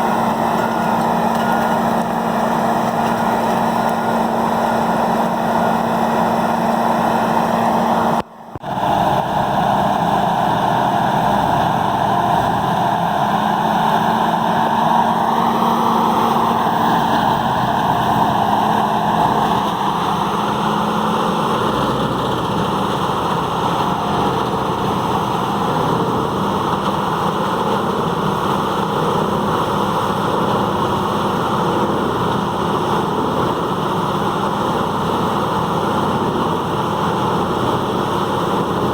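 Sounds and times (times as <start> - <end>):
grinder engine droning under load: 0.0 - 38.9.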